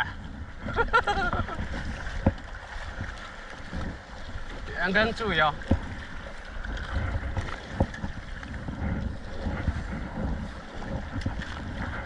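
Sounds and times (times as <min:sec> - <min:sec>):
water splashing around kayak: 0:00.0 - 0:12.0
wind buffeting microphone: 0:00.0 - 0:12.0.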